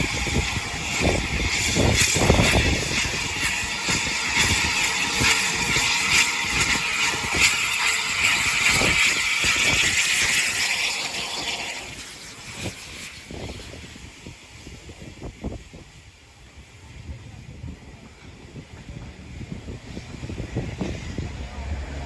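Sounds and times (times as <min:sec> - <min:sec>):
train passing with hiss and rattle: 0:00.0 - 0:22.0.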